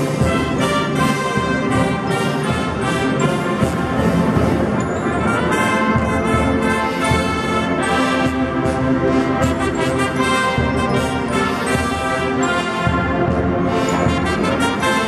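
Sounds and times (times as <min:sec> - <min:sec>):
brass band playing chords: 0:00.0 - 0:15.0.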